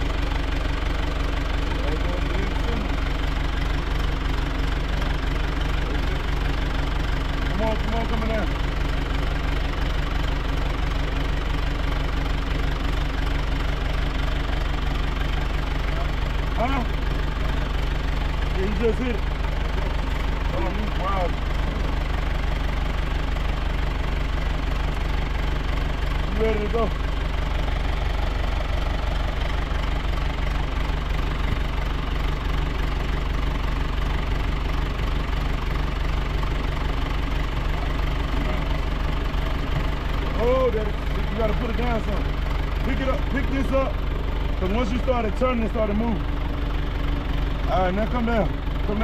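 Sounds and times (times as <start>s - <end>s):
tractor engine running: 0.0s - 49.0s.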